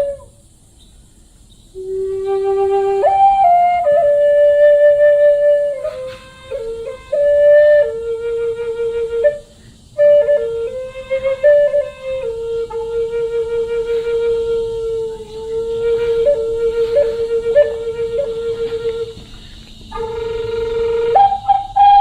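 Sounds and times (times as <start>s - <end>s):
slow flute melody: 0.0s - 0.4s, 1.8s - 22.0s.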